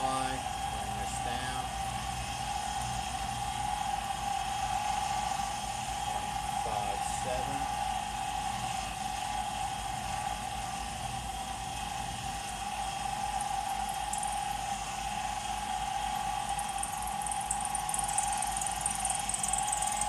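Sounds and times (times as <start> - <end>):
mill-lathe whining: 0.0 - 20.0.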